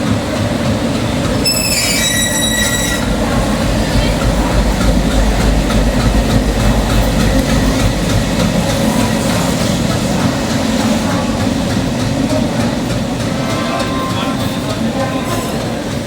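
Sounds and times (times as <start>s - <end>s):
train rumbling along track: 0.0s - 16.0s.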